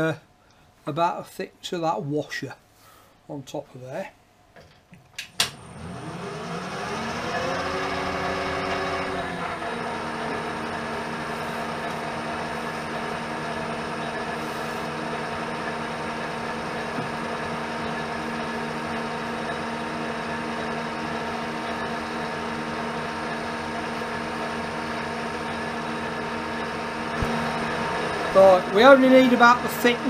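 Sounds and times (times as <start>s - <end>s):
metal lathe humming: 5.6s - 30.0s.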